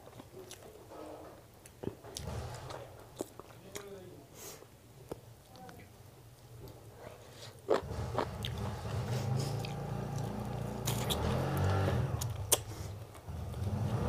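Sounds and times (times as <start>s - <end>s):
person chewing food: 0.0s - 3.9s, 6.6s - 14.0s.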